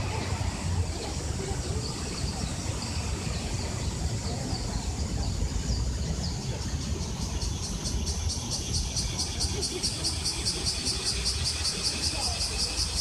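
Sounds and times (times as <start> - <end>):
insect pulsing call: 1.2 - 13.0.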